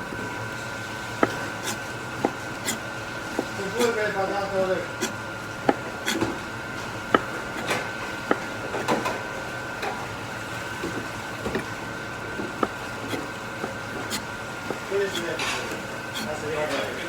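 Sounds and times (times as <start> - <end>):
utensils and dishes clinking: 1.2 - 17.0.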